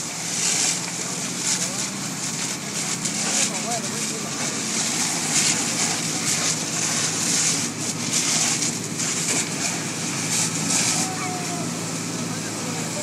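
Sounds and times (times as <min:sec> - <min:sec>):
fire engine droning: 0:00.0 - 0:13.0
loud hiss: 0:00.0 - 0:13.0.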